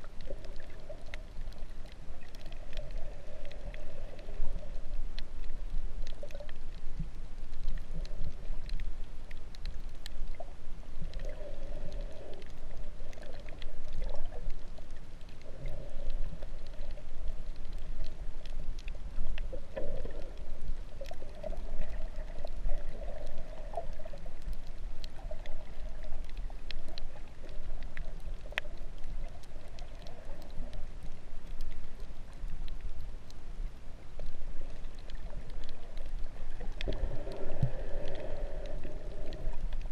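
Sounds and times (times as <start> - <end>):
muffled underwater water rush: 0.0 - 39.9
small scattered clicks: 0.0 - 39.9.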